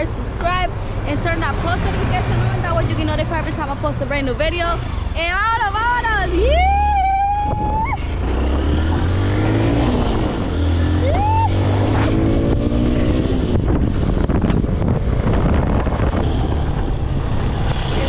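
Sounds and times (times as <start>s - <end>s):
motorbike engine accelerating: 0.0s - 18.0s.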